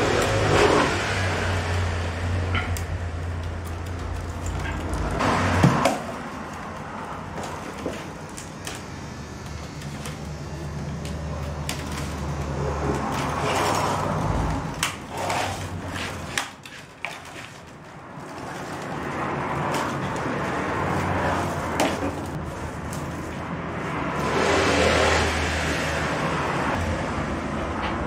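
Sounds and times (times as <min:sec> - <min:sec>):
willow rods rustling and scraping: 0:00.0 - 0:27.0.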